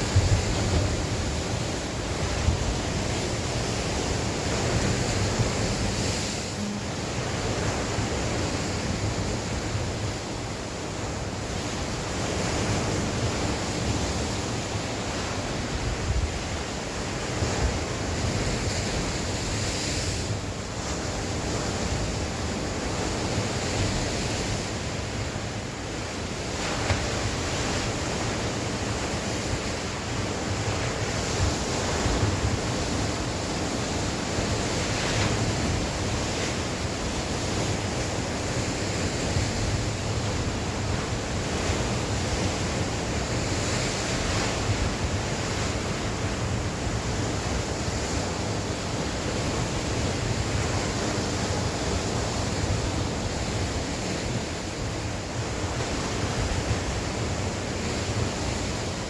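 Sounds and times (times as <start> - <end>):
sea waves breaking on shore: 0.0 - 59.0
wind gusting over microphone: 0.0 - 59.0.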